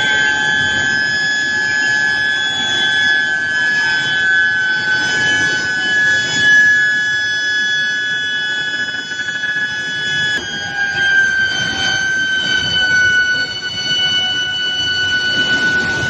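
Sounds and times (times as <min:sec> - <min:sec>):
furnace high-pitched whine: 0:00.0 - 0:16.0.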